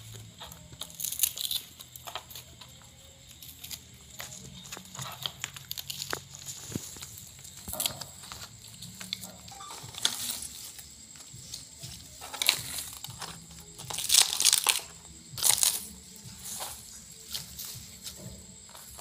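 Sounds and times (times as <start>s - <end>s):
herb stems snapping and tearing: 0.1s - 19.0s.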